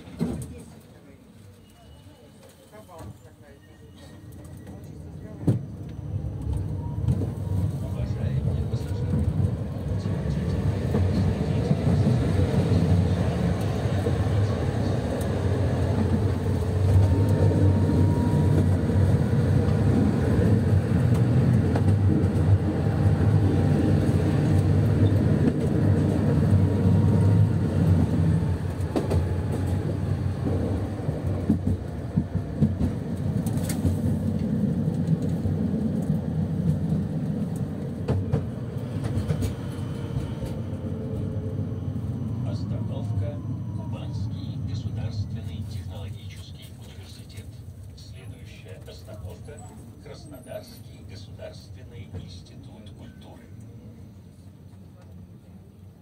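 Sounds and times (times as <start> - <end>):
tram wheels rumbling: 4.0 - 55.6.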